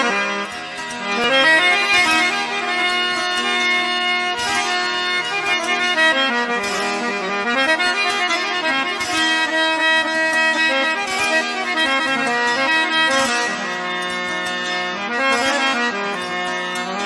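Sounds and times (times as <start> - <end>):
held drone: 0.0 - 17.0
reedy melody instrument: 0.0 - 17.0.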